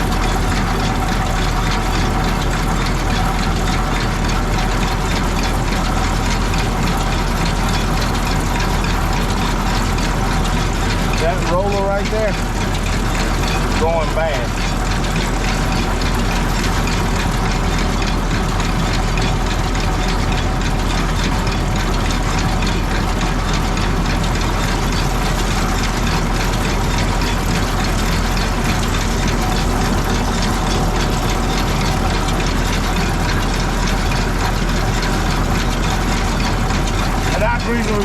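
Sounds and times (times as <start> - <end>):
baler chains and rollers turning: 0.0 - 38.0
tractor engine running: 0.0 - 38.0.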